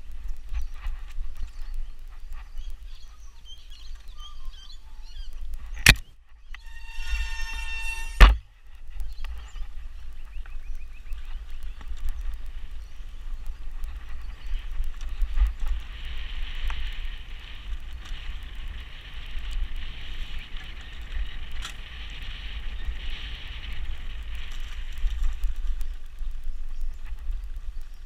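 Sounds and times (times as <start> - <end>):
bike rolling on dirt trail: 0.0 - 28.0
wind on microphone: 0.0 - 28.0.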